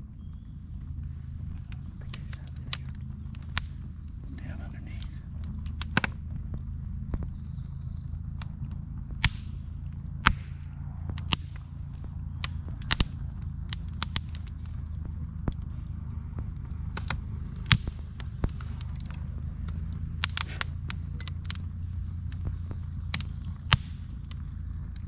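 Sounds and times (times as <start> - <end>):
engine and road drone: 0.0 - 25.0
sharp clicks and rattles: 0.0 - 25.0.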